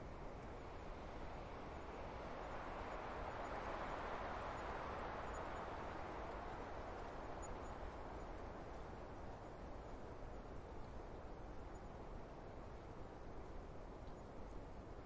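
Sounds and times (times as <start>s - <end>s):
wind hissing through forest: 0.0s - 15.0s.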